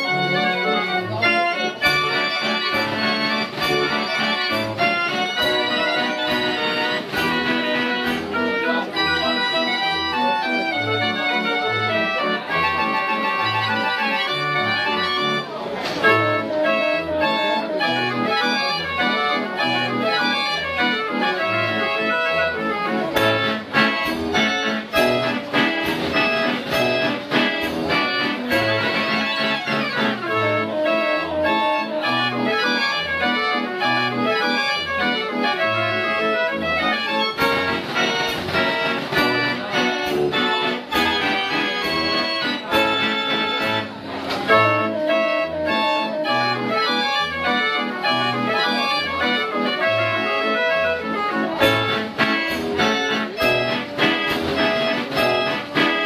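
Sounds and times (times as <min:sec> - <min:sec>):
fair organ playing a tune: 0:00.0 - 0:56.0.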